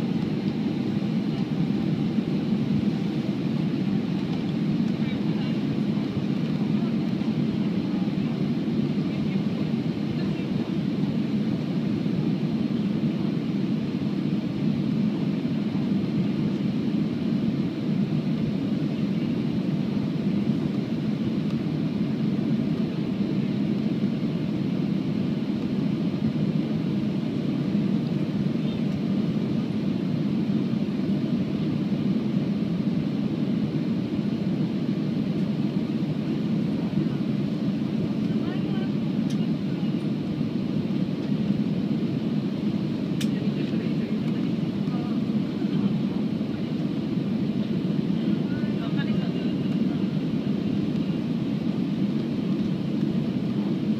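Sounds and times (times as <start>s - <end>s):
airflow over fuselage: 0.0s - 53.9s
jet engines droning: 0.0s - 53.9s.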